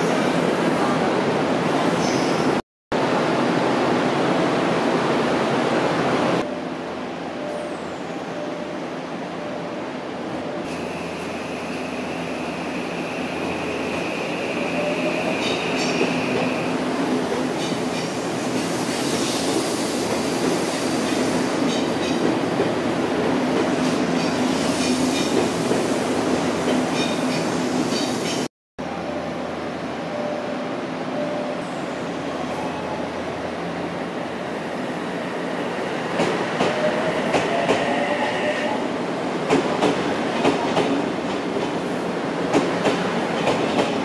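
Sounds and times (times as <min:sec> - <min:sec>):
electric train rumbling: 0:00.0 - 0:44.0.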